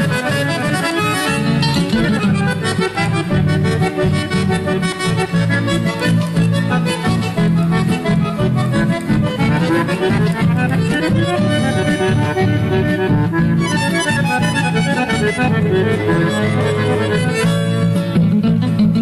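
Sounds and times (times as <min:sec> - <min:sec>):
accordion melody: 0:00.0 - 0:19.0
guitar accompaniment: 0:00.0 - 0:19.0.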